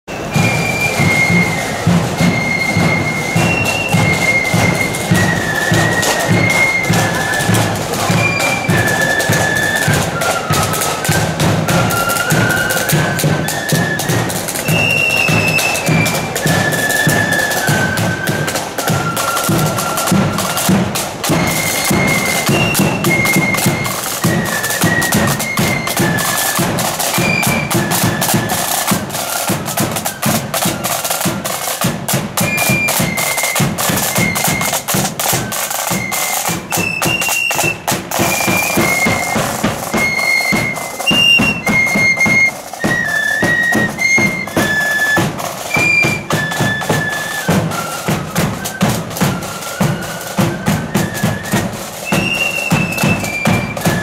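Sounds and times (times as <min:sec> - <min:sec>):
flutes playing a melody: 0:00.1 - 0:54.0
rapid snare drumming: 0:00.1 - 0:54.0.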